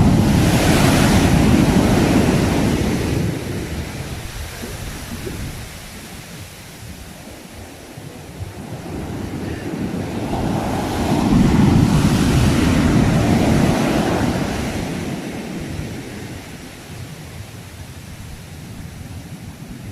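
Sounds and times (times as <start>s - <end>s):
sea waves breaking: 0.0s - 19.0s
wind noise on microphone: 0.0s - 19.9s.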